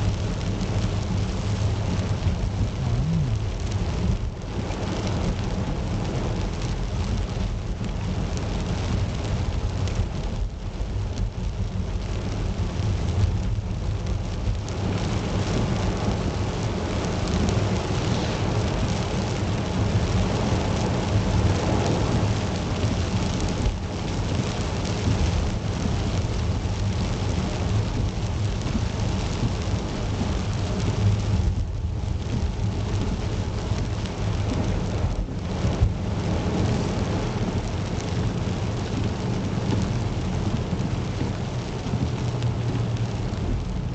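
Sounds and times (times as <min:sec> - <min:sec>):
deep rumble: 0:00.0 - 0:43.9
steady rain: 0:00.0 - 0:43.9.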